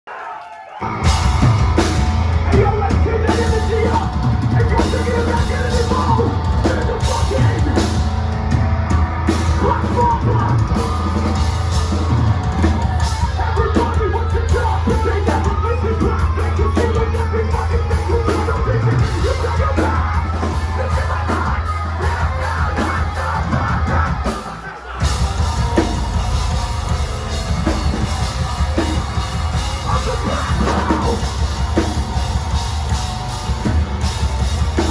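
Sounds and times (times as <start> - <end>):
yelled vocals: 0.1 - 34.9
metal band playing live: 0.7 - 34.9.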